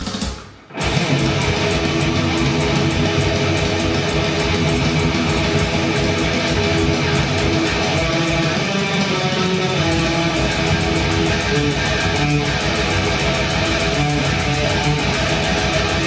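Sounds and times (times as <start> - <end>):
electric guitar riff: 0.6 - 16.0.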